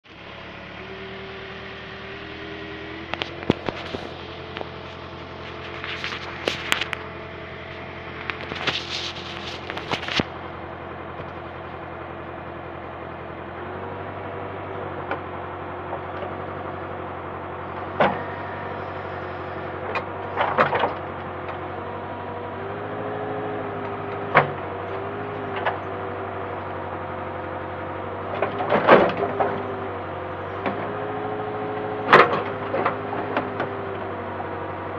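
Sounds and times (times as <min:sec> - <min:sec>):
backhoe diesel engine running: 0:00.0 - 0:34.9
hydraulic whine: 0:00.0 - 0:34.9.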